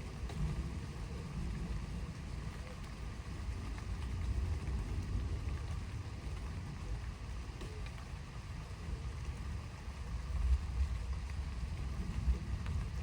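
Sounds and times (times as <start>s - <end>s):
faint rain hiss: 0.0s - 13.0s.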